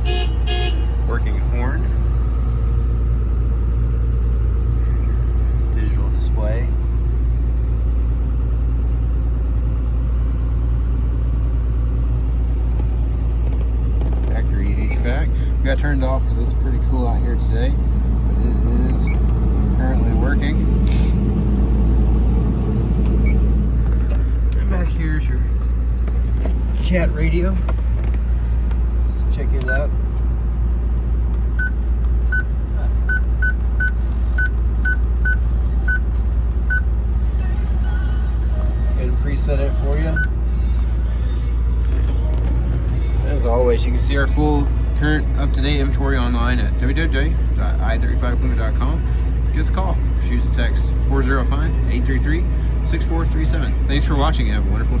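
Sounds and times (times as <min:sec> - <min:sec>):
excavator diesel engine idling: 0:00.0 - 0:55.0.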